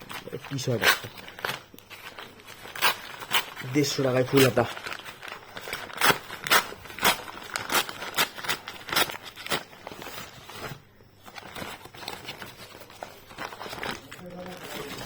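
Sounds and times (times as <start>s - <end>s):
packaging crackling: 0.0s - 15.0s
packaging rustling: 0.0s - 15.0s.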